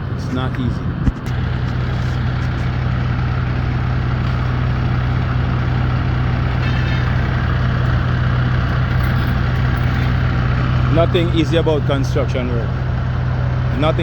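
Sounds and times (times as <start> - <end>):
large engine idling: 0.0 - 14.0.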